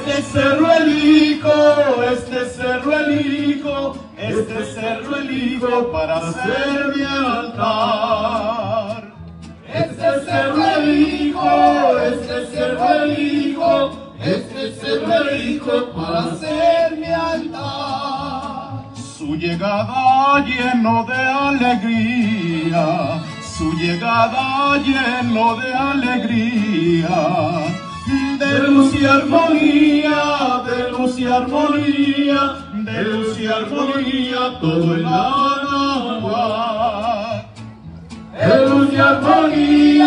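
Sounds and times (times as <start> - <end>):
men singing: 0.0 - 37.5, 38.3 - 40.0
strummed guitars: 0.0 - 40.0.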